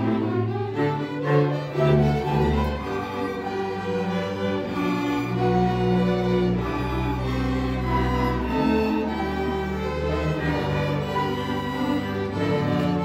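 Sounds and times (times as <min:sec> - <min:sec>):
string orchestra playing: 0:00.0 - 0:13.0.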